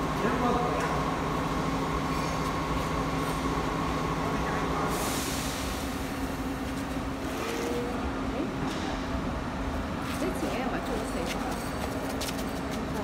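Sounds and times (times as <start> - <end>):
mechanical hum and rumble: 0.0 - 13.0.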